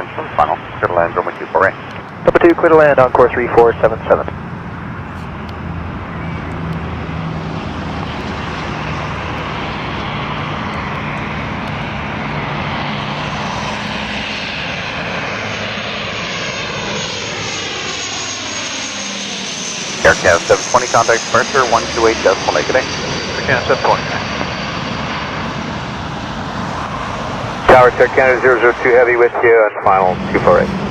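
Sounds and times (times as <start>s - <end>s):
propeller plane passing: 0.0s - 30.9s.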